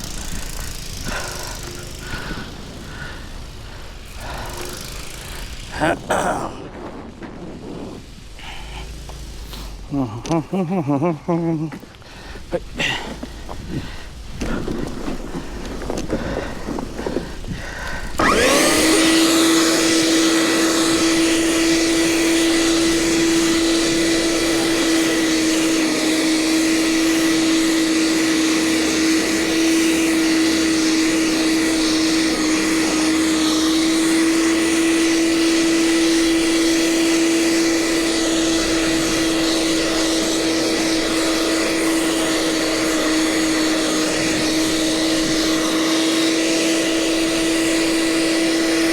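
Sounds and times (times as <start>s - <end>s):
snow blower motor whine: 0.0s - 48.9s.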